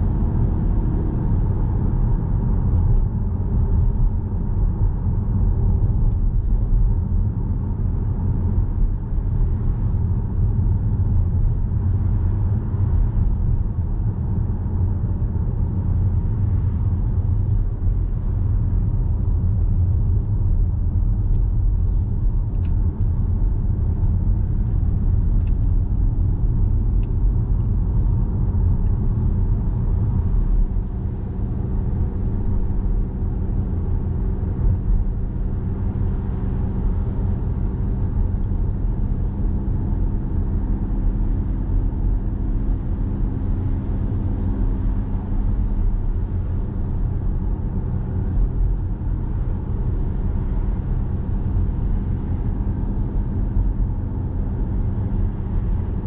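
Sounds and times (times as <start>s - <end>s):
car road rumble inside cabin: 0.0s - 56.0s.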